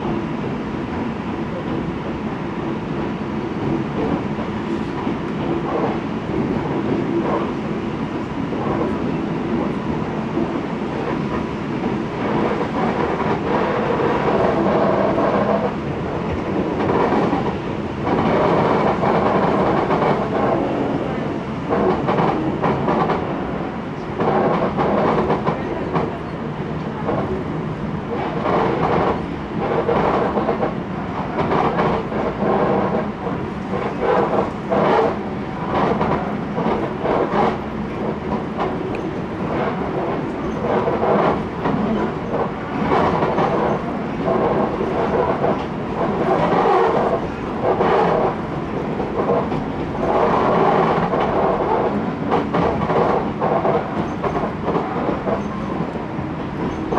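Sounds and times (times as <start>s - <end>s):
train rumble and hum: 0.0s - 56.9s.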